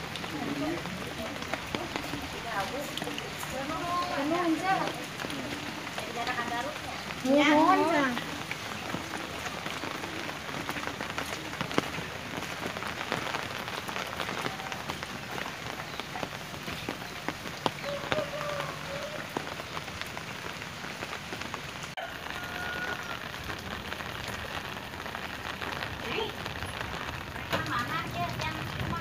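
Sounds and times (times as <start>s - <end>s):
rain patter on wet ground: 0.0s - 29.0s
raindrops ticking on an umbrella: 0.0s - 29.0s.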